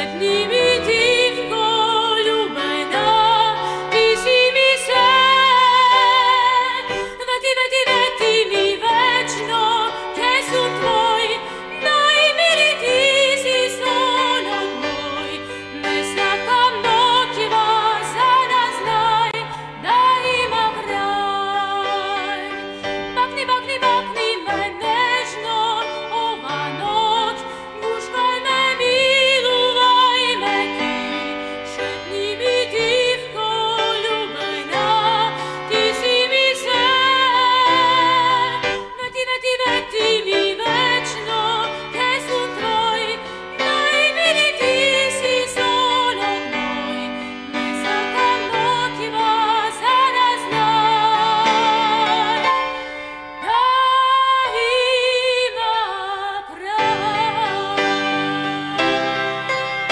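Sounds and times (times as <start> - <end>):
instrumental backing music: 0.0 - 59.9
woman singing with vibrato: 0.0 - 59.9.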